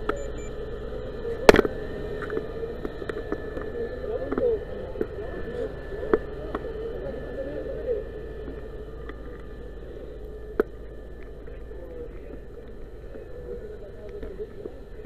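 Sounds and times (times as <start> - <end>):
fire engine humming: 0.0 - 15.0.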